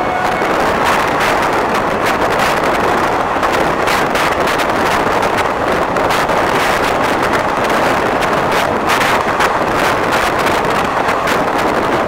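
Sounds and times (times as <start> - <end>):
train wheels rumbling on track: 0.0 - 12.0
wind rush on microphone: 0.0 - 12.0.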